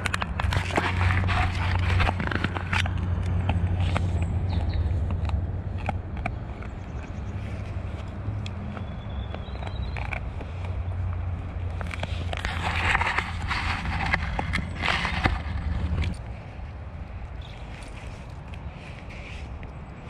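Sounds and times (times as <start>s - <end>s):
dog gnawing crunches: 0.0s - 20.0s
steady low rumble: 0.0s - 20.0s.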